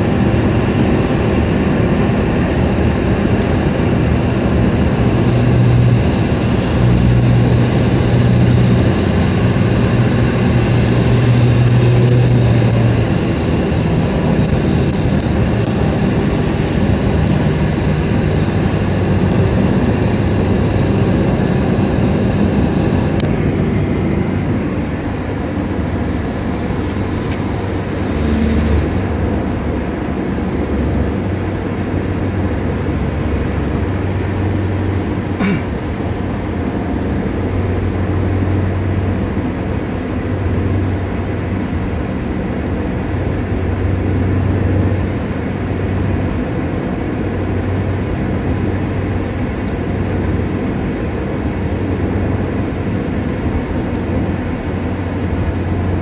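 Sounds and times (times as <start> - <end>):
car engine drone: 0.0 - 56.0.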